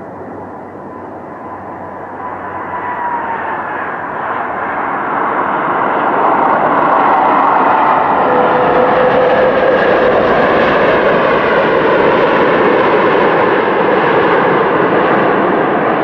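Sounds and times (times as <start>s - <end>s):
jet engine whine falling: 0.0s - 16.0s
jet engines rushing on landing: 0.0s - 16.0s.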